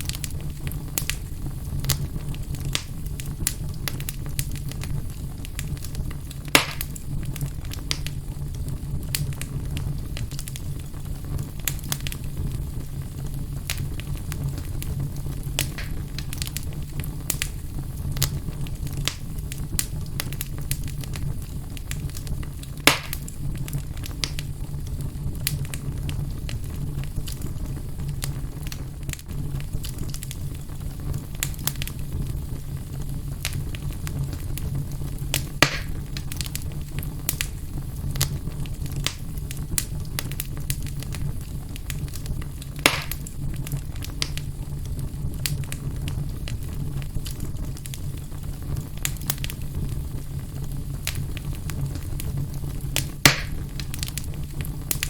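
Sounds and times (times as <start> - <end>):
fireplace fire crackling: 0.0 - 55.0
loud fire pops: 0.0 - 55.0.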